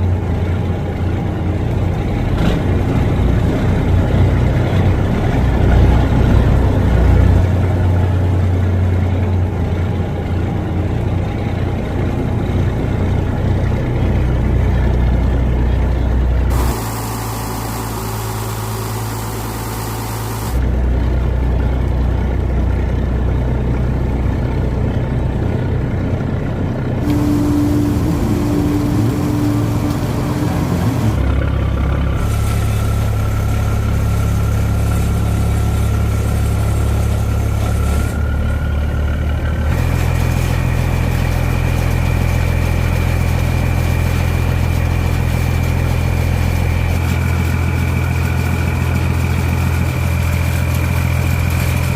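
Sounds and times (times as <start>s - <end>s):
boat engine droning: 0.0s - 51.9s.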